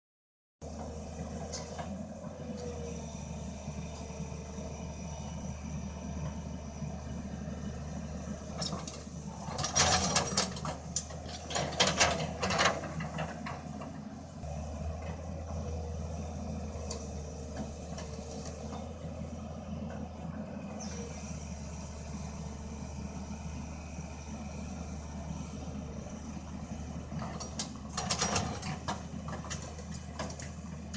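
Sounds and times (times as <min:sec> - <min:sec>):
excavator diesel engine running: 0:00.6 - 0:30.9.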